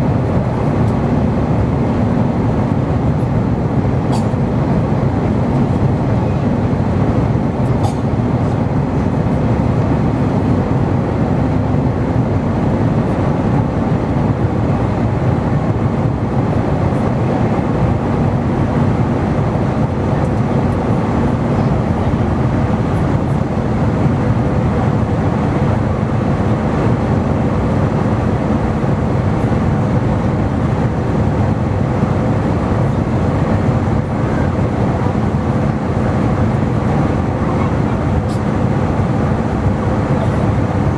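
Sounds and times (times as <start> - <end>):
aircraft cabin engine and airflow noise: 0.0 - 40.9.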